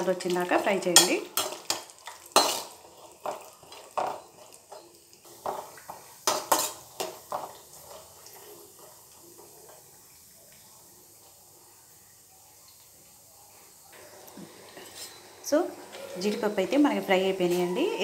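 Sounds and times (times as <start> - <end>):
skimmer scraping a frying pan: 0.0 - 10.2, 13.6 - 18.0
faint frying sizzle: 0.0 - 18.0.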